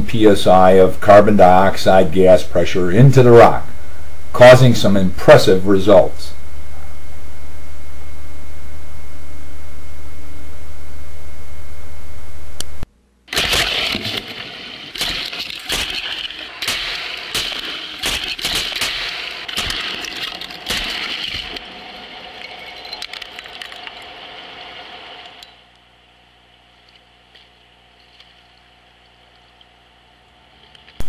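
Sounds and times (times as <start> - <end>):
faint low hum: 0.0 - 13.4, 15.0 - 31.0.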